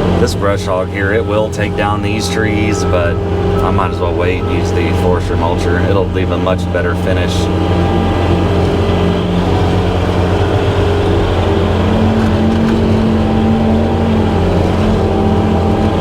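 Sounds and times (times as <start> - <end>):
extra tone: 0.0 - 16.0
skid steer engine running: 0.0 - 16.0.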